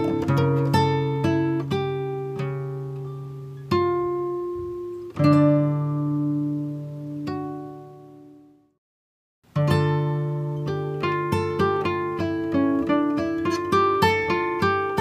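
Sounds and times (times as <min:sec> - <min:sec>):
acoustic guitar plucking: 0:00.0 - 0:08.7, 0:09.5 - 0:15.0.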